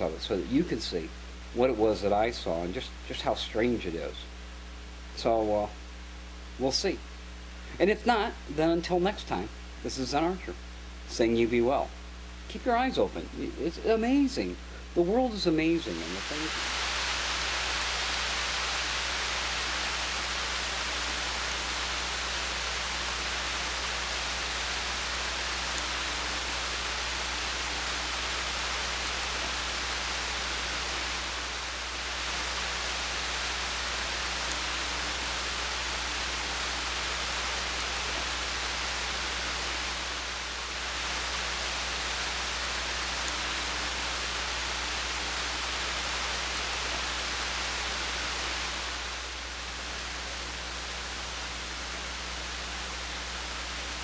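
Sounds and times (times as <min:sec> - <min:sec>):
low steady hum: 0:00.0 - 0:54.0
rain hissing: 0:00.0 - 0:54.0.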